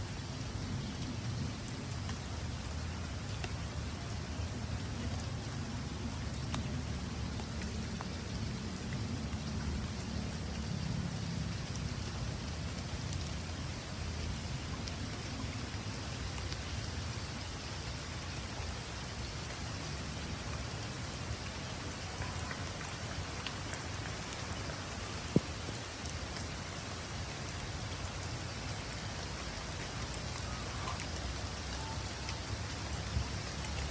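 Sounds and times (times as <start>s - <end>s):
rain pattering: 0.0s - 33.9s.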